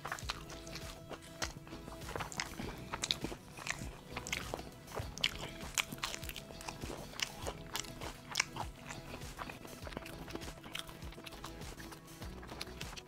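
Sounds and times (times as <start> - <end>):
background music: 0.0 - 13.0
crunching and chewing fried chicken: 0.0 - 13.0.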